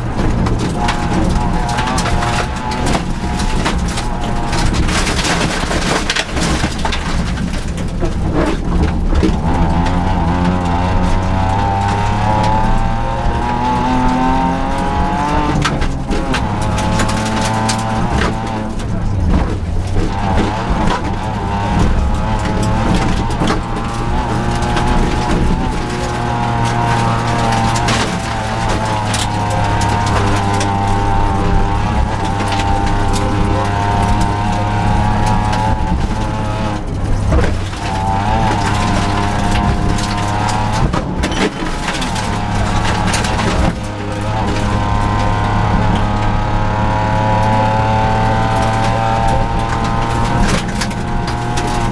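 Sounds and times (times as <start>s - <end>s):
gravel clattering against car: 0.0s - 51.9s
rally car engine revving: 0.0s - 51.9s
sharp clicks and knocks: 0.0s - 51.9s.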